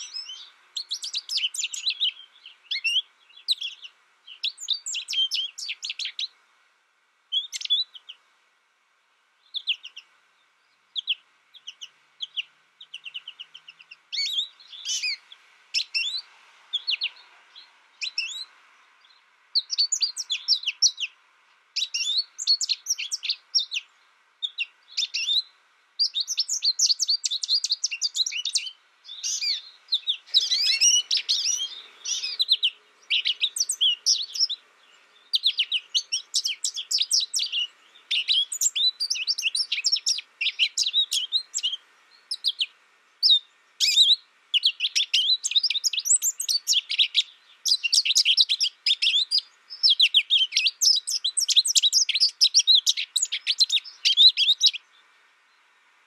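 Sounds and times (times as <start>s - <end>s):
bird twittering song: 0.0s - 6.4s, 7.3s - 8.2s, 9.4s - 21.2s, 21.8s - 55.7s.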